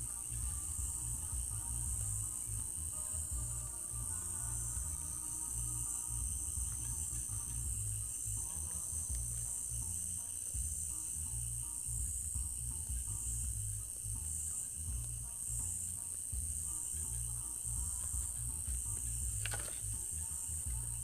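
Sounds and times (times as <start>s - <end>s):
crickets chirping: 0.0s - 21.0s
low uneven rumble: 0.0s - 21.0s.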